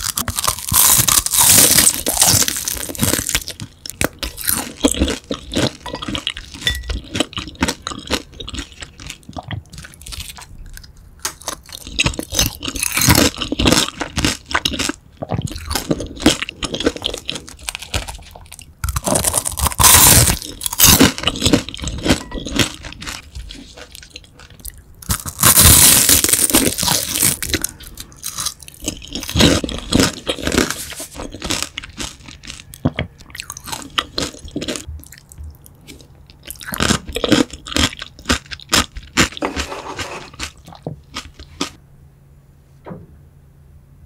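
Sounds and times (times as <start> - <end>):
crunching and chewing: 0.0 - 41.8.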